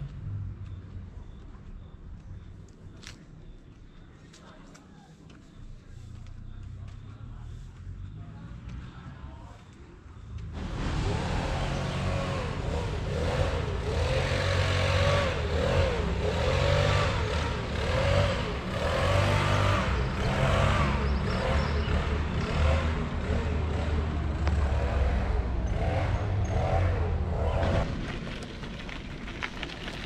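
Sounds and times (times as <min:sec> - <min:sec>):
road noise: 0:00.0 - 0:30.0
vehicle engine hum: 0:00.0 - 0:30.0.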